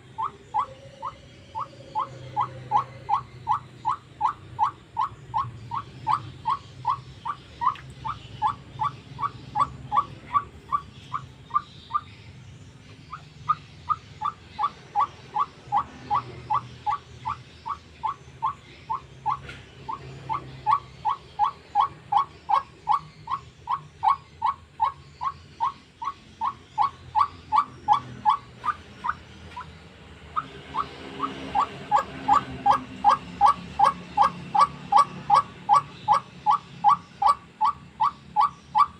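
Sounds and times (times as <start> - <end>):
waterhen calling: 0.0 - 12.1, 13.1 - 29.7, 30.4 - 38.9.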